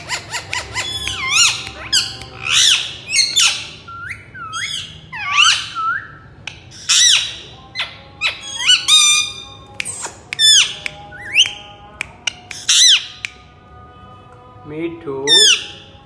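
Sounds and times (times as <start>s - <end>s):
parakeet squawking and whistling: 0.0s - 11.6s, 12.2s - 13.4s, 15.2s - 16.0s.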